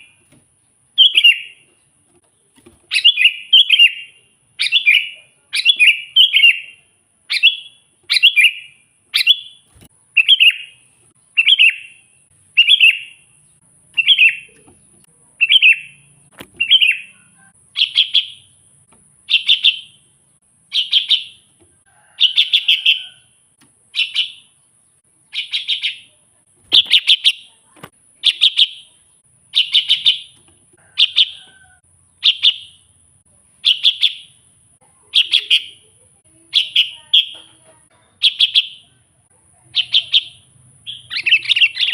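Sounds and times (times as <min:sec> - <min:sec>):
bulbul chirping song: 0:00.0 - 0:41.9.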